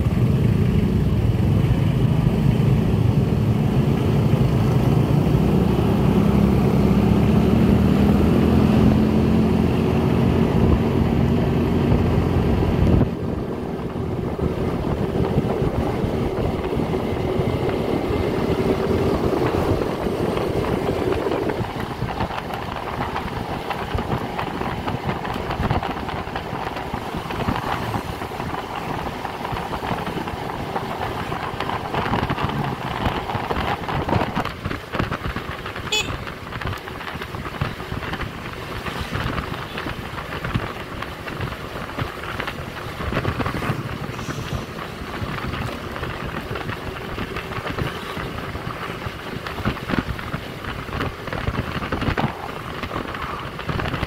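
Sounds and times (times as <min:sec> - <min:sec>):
scooter engine running: 0:00.0 - 0:54.0
wind buffeting microphone: 0:00.0 - 0:54.0.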